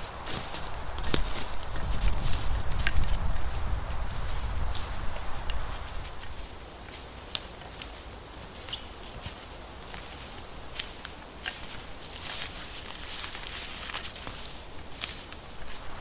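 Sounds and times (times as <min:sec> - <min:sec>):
dry leaves and twigs crackling: 0:00.0 - 0:16.0.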